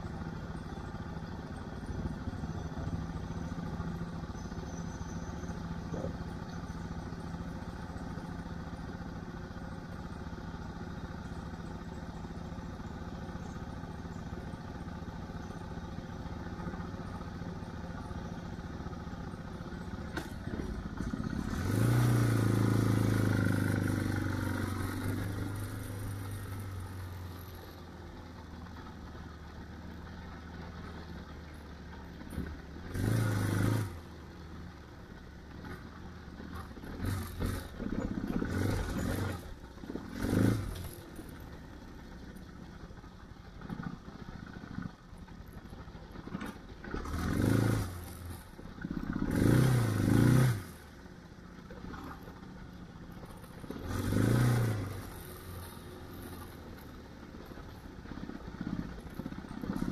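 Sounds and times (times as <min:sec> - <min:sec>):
motorcycle engine revving: 0:00.0 - 0:27.8, 0:32.2 - 0:34.3, 0:35.5 - 0:41.7, 0:46.2 - 0:51.0, 0:51.7 - 0:59.9
gravel clattering under tyres: 0:00.0 - 0:59.9.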